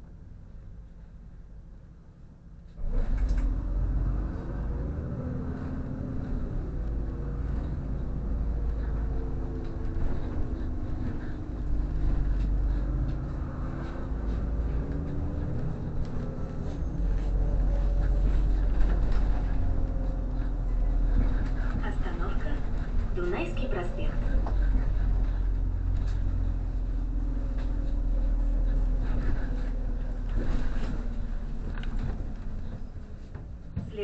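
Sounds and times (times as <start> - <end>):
bus engine rumble: 0.0 - 34.0
rattles and clicks of bus body: 0.0 - 34.0.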